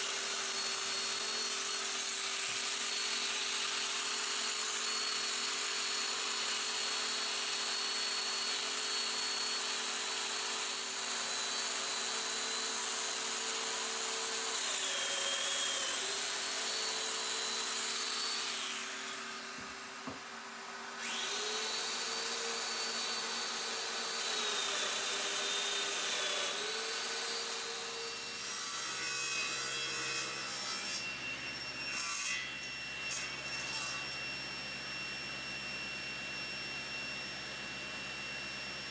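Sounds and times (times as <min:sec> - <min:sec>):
power joiner motor whine: 0:00.0 - 0:38.9.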